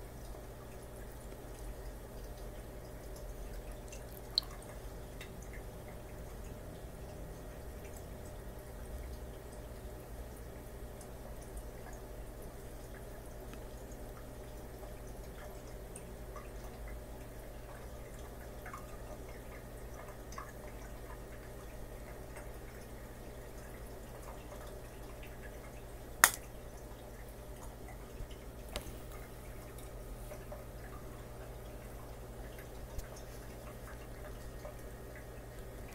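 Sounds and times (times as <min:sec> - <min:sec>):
faint ticks and plinks: 0:00.0 - 0:35.9
low aquarium hum: 0:00.0 - 0:35.9.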